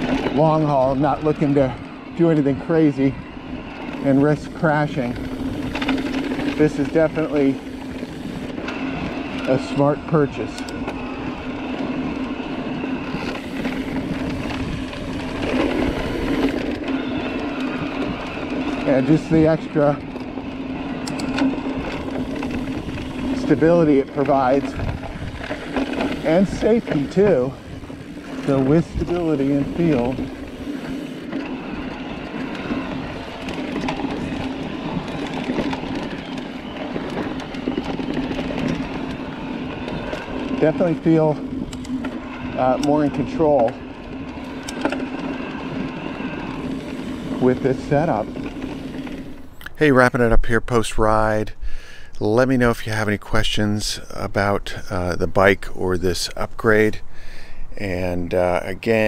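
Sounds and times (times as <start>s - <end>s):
steady hum: 0.0s - 49.8s
steady drone: 0.0s - 50.4s
bike rattling over bumps: 0.0s - 59.0s
tyres on loose dirt and stones: 0.0s - 59.0s.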